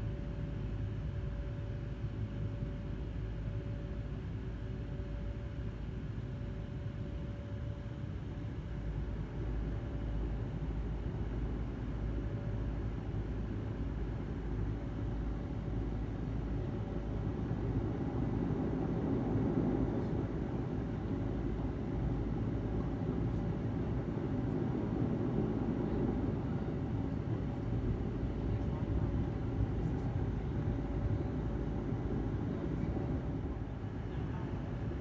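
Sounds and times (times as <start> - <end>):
turboprop engine drone: 0.0 - 35.0.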